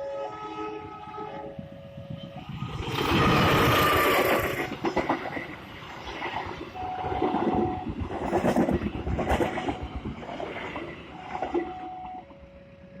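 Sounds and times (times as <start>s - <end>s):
train rumbling clatter on rails: 0.0s - 13.0s
train whine: 0.0s - 13.0s.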